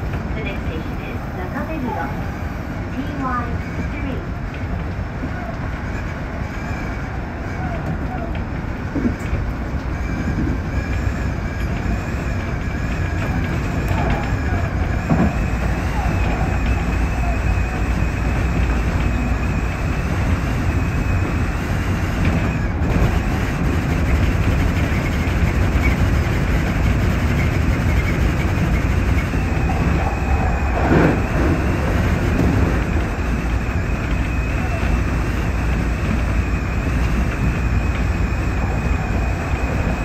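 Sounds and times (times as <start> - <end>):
train clatters: 0.0 - 40.0
train wheels rumbling on rail: 0.0 - 40.0.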